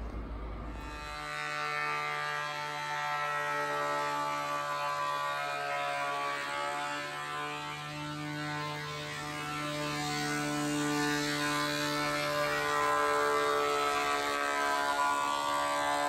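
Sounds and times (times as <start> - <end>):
thickness planer planing wood: 0.7 - 16.0.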